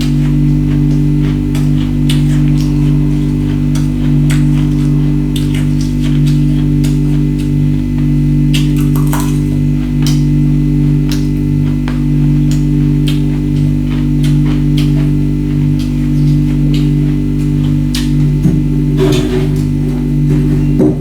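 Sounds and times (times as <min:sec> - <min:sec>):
ice being bitten and chewed: 0:00.0 - 0:19.3.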